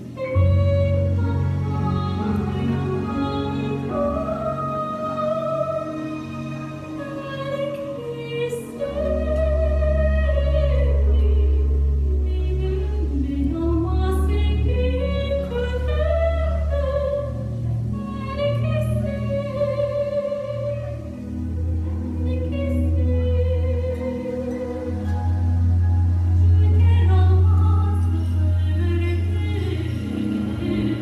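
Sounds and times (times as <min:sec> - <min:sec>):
woman singing with vibrato: 0:00.0 - 0:25.7, 0:26.4 - 0:31.0.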